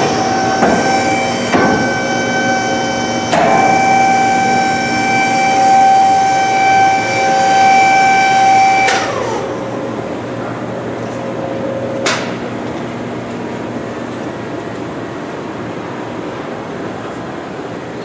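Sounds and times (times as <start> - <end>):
mixer machine whine: 0.0 - 17.2
mechanical hum: 0.0 - 18.0.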